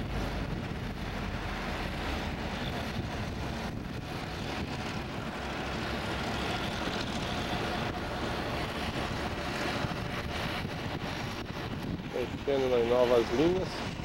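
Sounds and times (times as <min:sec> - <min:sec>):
freight train rumbling past: 0:00.0 - 0:14.0
wind noise on microphone: 0:00.0 - 0:14.0.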